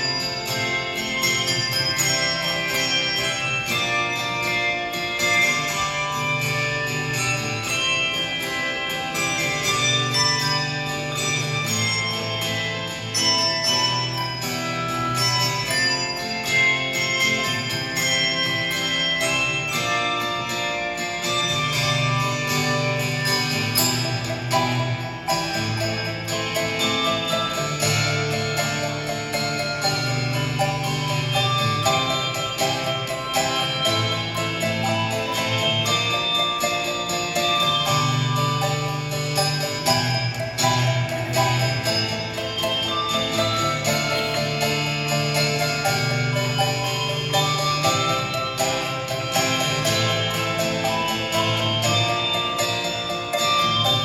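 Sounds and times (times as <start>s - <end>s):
handbell choir playing: 0.0s - 54.0s.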